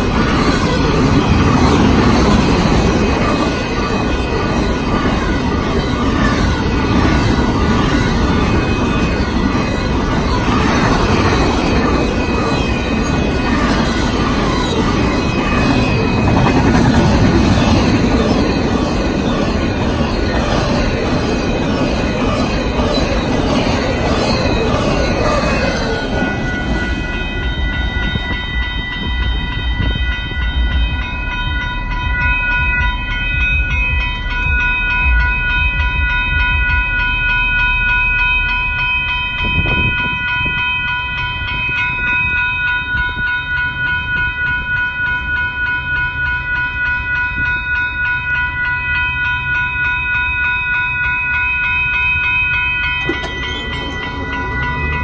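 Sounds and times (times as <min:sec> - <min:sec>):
crossing warning bell ringing: 0:00.0 - 0:55.0
freight train rumbling past: 0:00.0 - 0:55.0.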